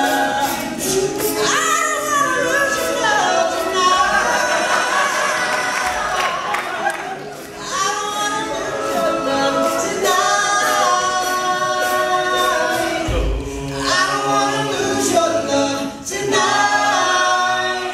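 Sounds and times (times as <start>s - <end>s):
male a cappella group singing: 0.0s - 17.9s.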